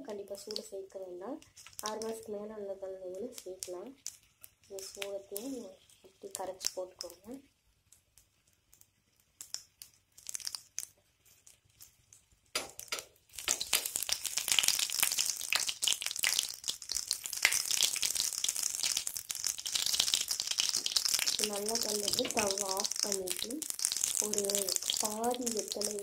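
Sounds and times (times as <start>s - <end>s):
oil sizzling and crackling: 0.0s - 26.0s.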